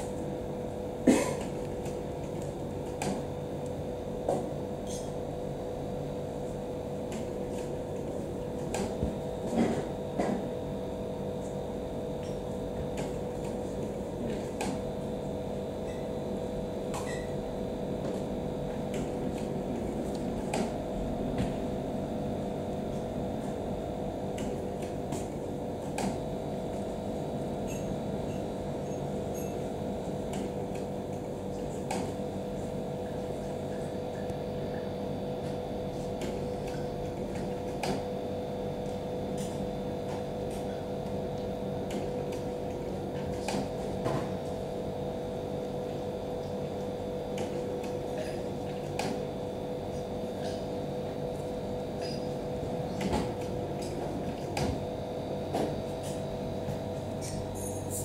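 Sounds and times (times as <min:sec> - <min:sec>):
fan humming: 0:00.0 - 0:58.0.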